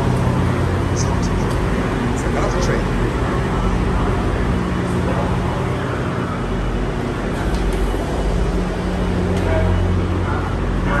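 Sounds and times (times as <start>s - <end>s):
low machinery rumble and hum: 0.0s - 11.0s.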